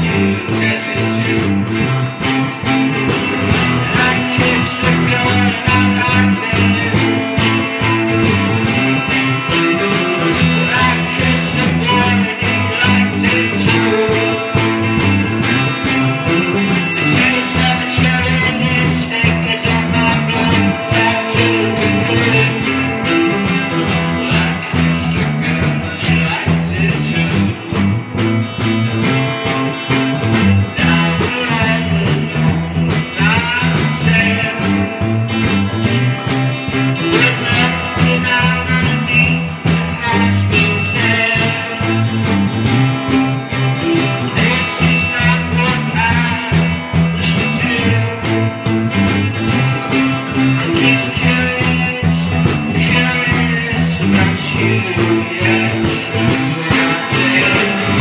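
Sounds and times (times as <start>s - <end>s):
electric guitar: 0.0s - 58.0s
rock band playing: 0.0s - 58.0s.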